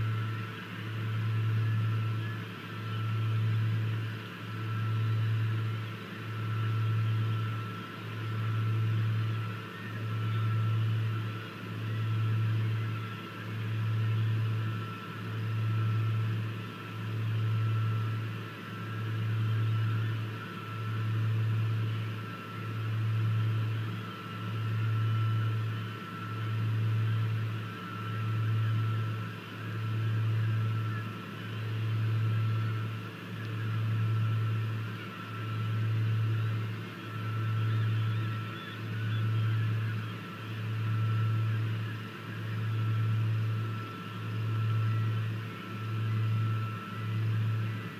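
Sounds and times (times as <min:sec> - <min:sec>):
pulsing low mechanical hum: 0:00.0 - 0:47.9.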